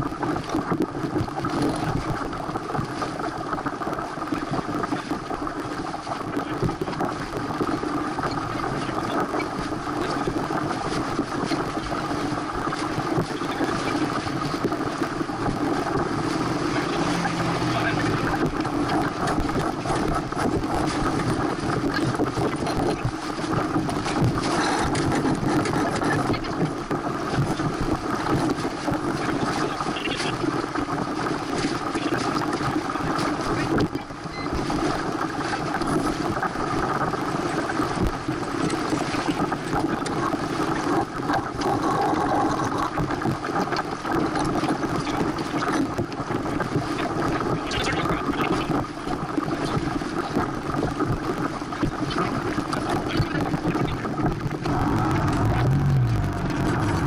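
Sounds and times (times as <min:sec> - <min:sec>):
water along boat hull: 0:00.0 - 0:57.0
wind on microphone: 0:00.0 - 0:57.0.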